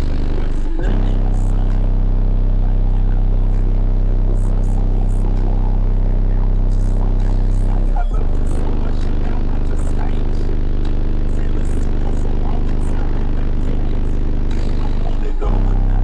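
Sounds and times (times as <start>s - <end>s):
subwoofer playing deep bass: 0.0s - 16.0s.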